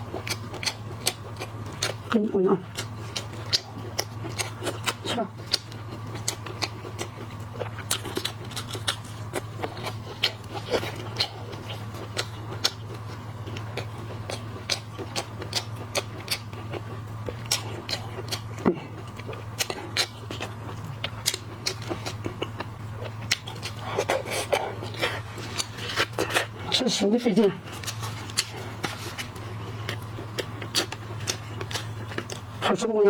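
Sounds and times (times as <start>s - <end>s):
shell crunching and chewing: 0.0s - 33.0s.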